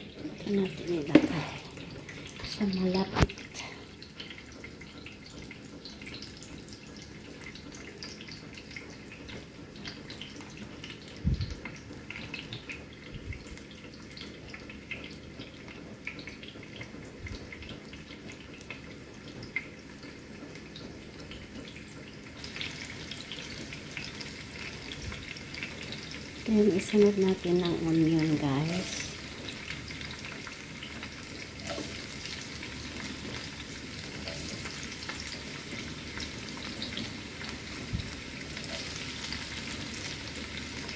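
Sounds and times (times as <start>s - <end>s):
garlic sizzling in oil: 0.0s - 40.9s.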